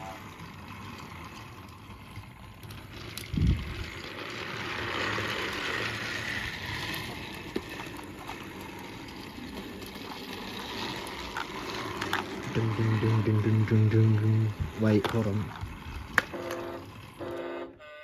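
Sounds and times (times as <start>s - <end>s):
toy train motor whirring: 0.0s - 18.0s.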